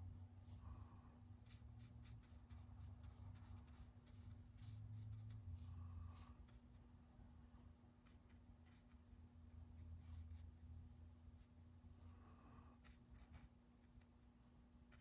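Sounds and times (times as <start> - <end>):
paintbrush strokes on paper: 0.0 - 14.2
steady low hum: 0.0 - 15.0.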